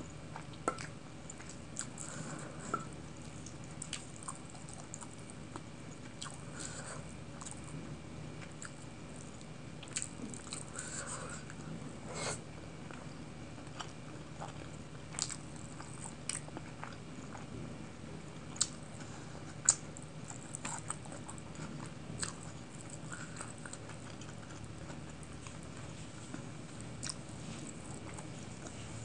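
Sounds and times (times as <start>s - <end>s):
chewing and wet mouth sounds: 0.3s - 7.8s, 8.4s - 11.7s, 12.9s - 17.6s, 18.4s - 29.0s.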